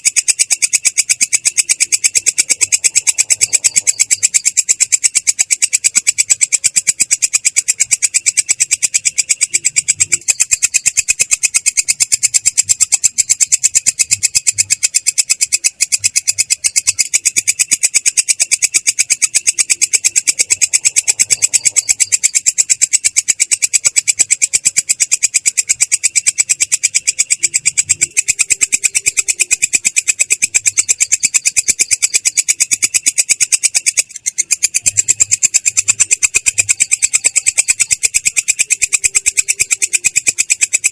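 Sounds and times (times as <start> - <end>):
katydid trilling: 0.0 - 40.9.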